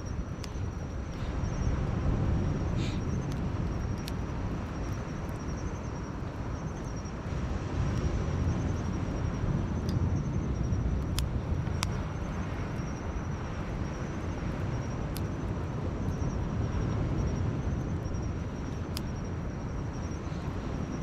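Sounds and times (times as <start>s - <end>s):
insects chirping: 0.0s - 21.0s
steady low rumble: 0.0s - 21.0s
campfire crackling and popping: 0.1s - 20.8s.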